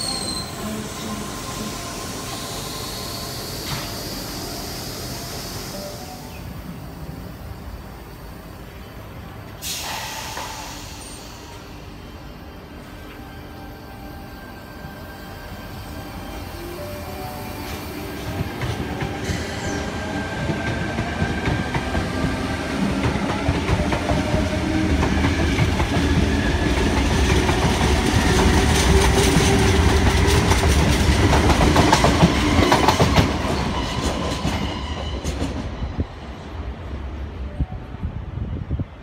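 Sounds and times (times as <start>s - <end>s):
electric train running past: 0.0s - 39.0s.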